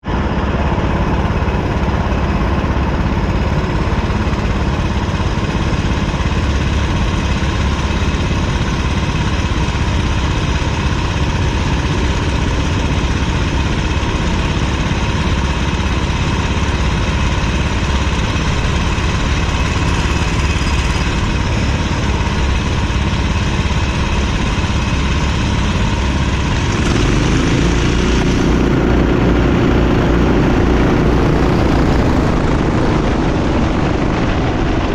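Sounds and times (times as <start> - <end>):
kart engine revving: 2.2 - 34.9.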